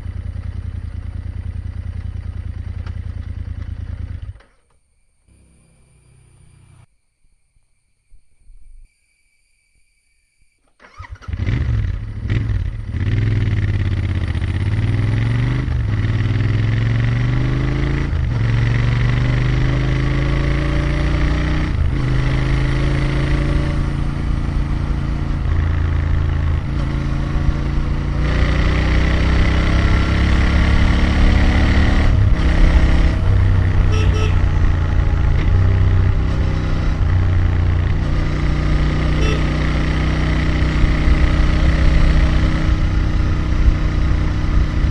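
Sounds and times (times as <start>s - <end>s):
motorcycle engine shifting gears: 0.0s - 6.9s, 10.8s - 44.9s.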